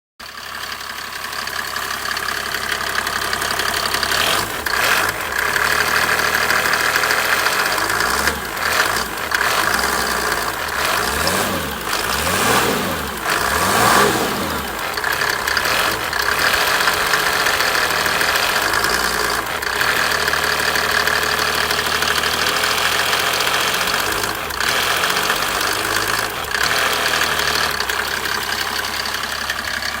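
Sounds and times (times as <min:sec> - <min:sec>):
diesel engine knocking: 0:00.2 - 0:30.0.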